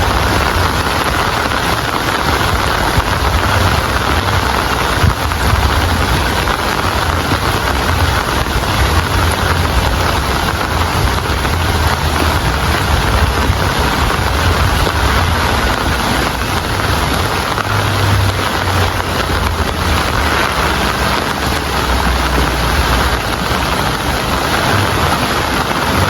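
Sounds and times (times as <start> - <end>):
heavy rain falling: 0.0 - 26.0
low rumble: 0.0 - 26.0.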